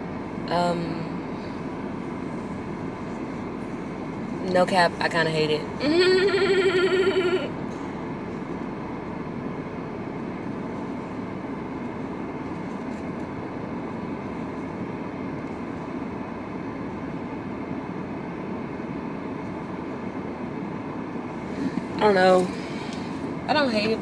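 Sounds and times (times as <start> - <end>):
low rumble and hiss: 0.0 - 24.0.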